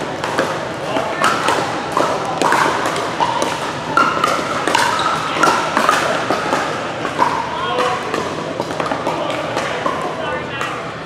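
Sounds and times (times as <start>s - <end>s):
paddles hitting plastic ball: 0.0s - 10.9s
background chatter: 0.0s - 11.0s.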